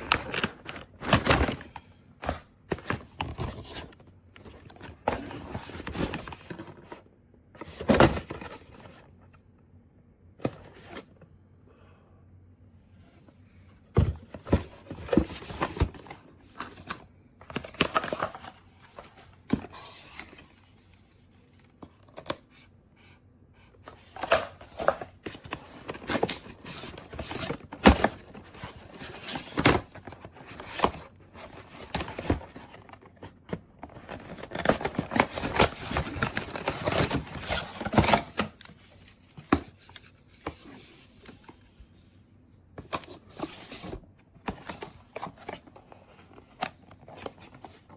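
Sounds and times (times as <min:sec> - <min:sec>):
rustling of handled packaging: 0:00.0 - 0:09.1, 0:14.0 - 0:22.7, 0:23.8 - 0:47.9.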